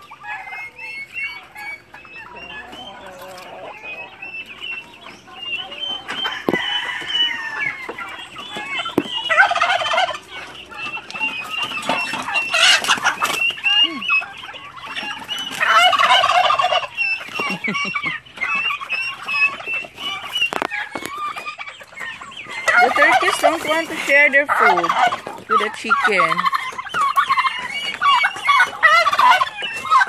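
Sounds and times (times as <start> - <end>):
chickens clucking: 0.0 - 30.0
turkeys gobbling: 0.0 - 30.0.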